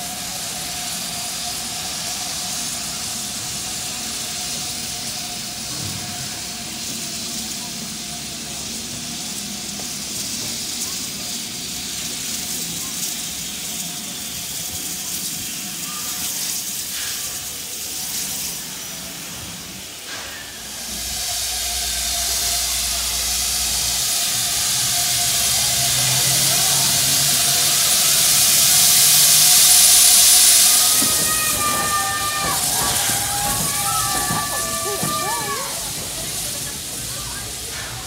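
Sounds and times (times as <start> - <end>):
steam locomotive hissing: 0.0 - 38.0
voices outdoors: 0.0 - 38.0.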